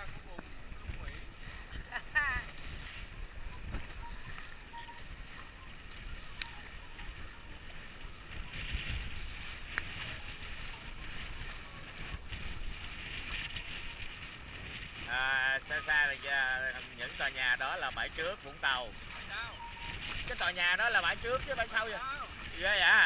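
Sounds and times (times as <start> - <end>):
water rushing along a hull: 0.0 - 23.0
wind buffeting microphone: 0.0 - 23.0.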